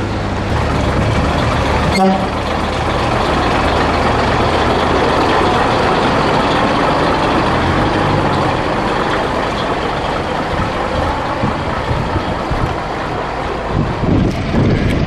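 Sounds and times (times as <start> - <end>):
diesel truck engine passing: 0.0 - 15.0.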